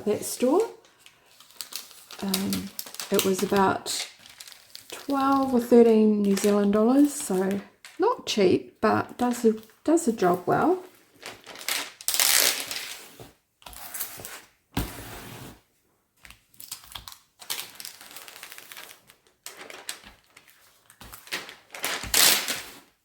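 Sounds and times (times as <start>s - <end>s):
plastic sheet rustling and crinkling: 0.0s - 8.4s, 9.2s - 15.7s, 16.4s - 23.0s.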